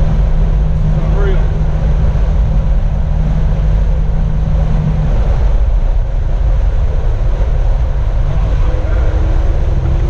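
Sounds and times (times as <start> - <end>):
car engine rumbling while driving: 0.0 - 10.0.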